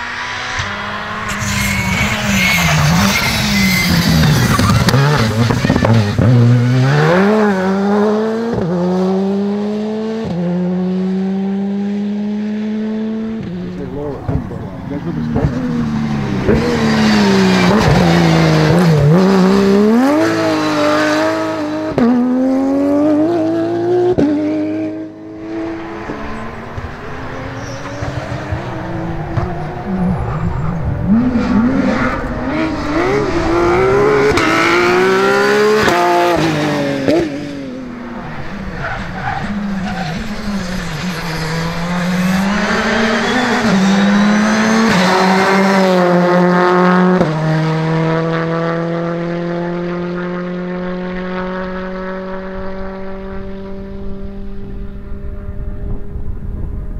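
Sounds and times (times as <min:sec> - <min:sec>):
rally car engines at full speed: 0:00.0 - 0:56.9.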